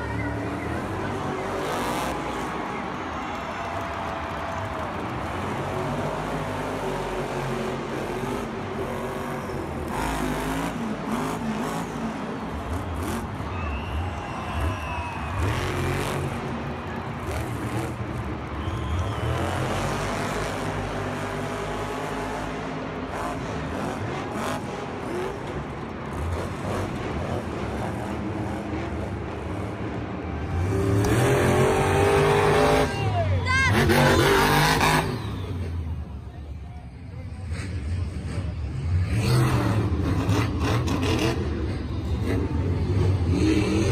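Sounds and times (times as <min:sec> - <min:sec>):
truck engine revving: 0:00.0 - 0:36.2, 0:37.2 - 0:43.9
crowd noise: 0:00.0 - 0:43.9.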